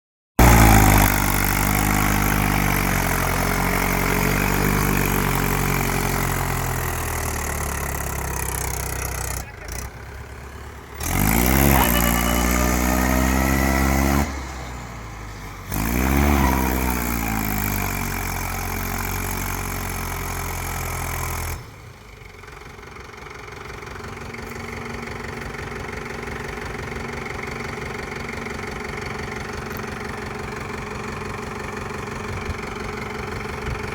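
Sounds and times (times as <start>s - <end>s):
tractor diesel engine straining: 0.4s - 33.9s.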